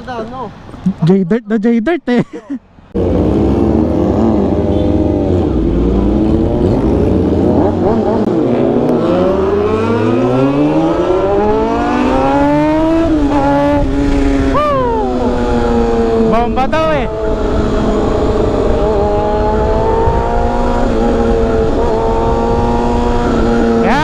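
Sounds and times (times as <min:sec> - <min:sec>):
motorcycle engines accelerating: 0:02.9 - 0:24.0.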